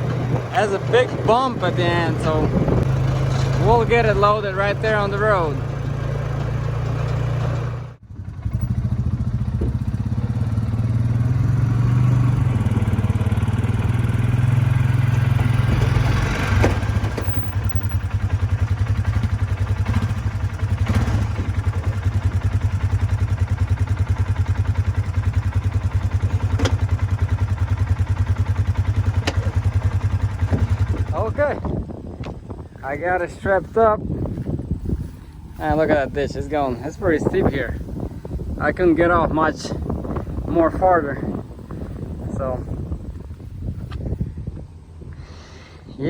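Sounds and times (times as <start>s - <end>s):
quad bike engine running: 0.0s - 45.8s.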